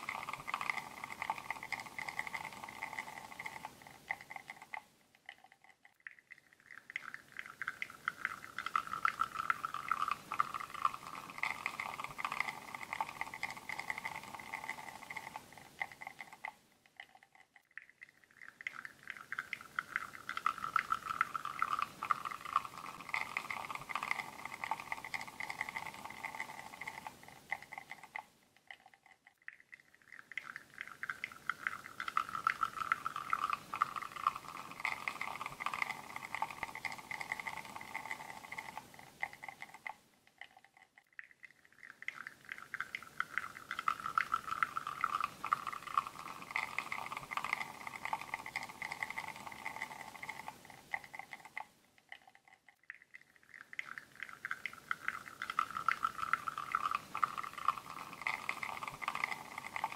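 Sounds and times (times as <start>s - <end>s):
espresso trickling into cup: 0.0s - 17.1s, 18.3s - 28.8s, 30.2s - 40.0s, 41.9s - 51.7s, 53.7s - 59.9s.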